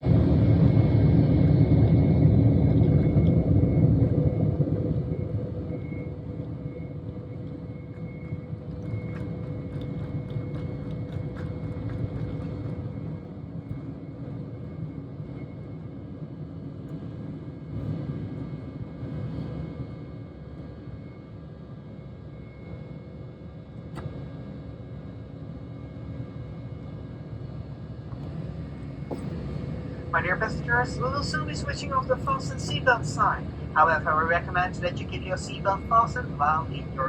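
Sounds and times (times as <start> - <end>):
faint steady whine: 0.0 - 37.0
jet engines rumbling on takeoff: 0.0 - 37.0
steady engine drone: 0.0 - 37.0.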